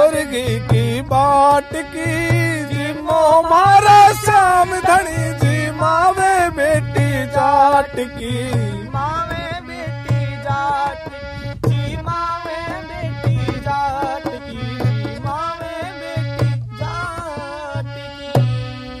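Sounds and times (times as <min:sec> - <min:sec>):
dholak drum rhythm: 0:00.0 - 0:19.0
harmonium melody: 0:00.0 - 0:19.0.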